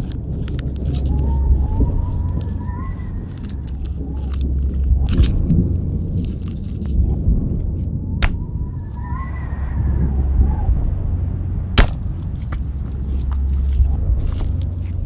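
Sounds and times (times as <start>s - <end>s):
wet clicks and crackles: 0.0s - 9.1s, 11.8s - 15.0s
deep steady rumble: 0.0s - 15.0s.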